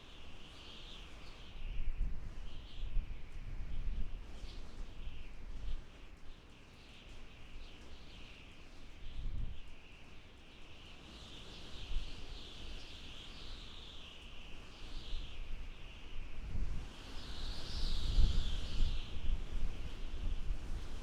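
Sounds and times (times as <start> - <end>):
wind gusts with low rumble: 0.0 - 21.0.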